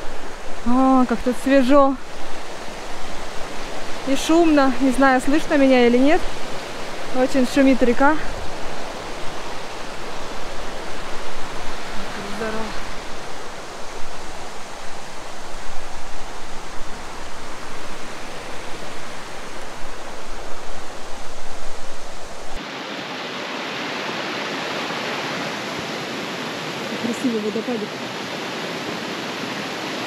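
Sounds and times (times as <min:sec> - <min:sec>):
river rushing: 0:00.0 - 0:30.0.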